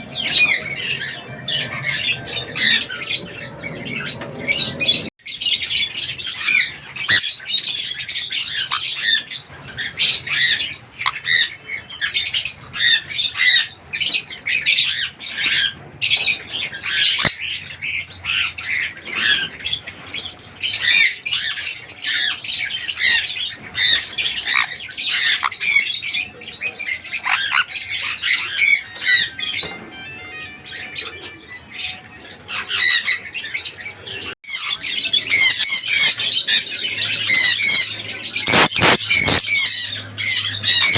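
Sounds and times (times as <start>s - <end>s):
parrot shrill squawks and chatter: 0.0s - 40.9s.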